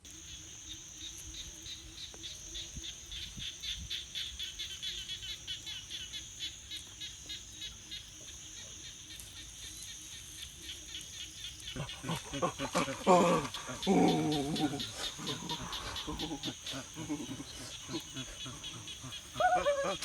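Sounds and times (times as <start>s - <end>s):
high insect buzz: 0.0s - 20.0s.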